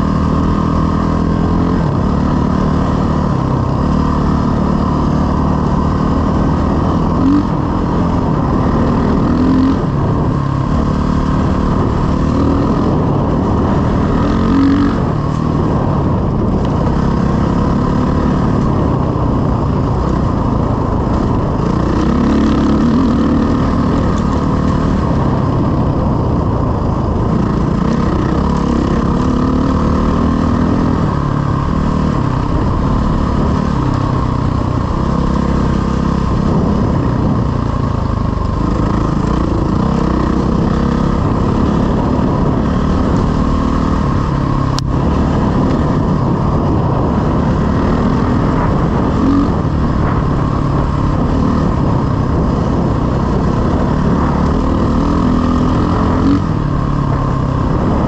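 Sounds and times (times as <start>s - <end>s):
dirt bike engine revving: 0.0s - 37.8s, 38.4s - 58.0s.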